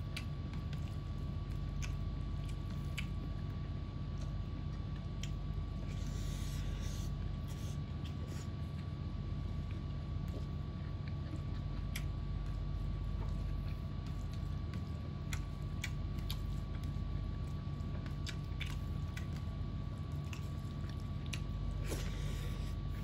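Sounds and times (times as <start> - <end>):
person chewing food: 0.0 - 23.0
steady low hum: 0.0 - 23.0.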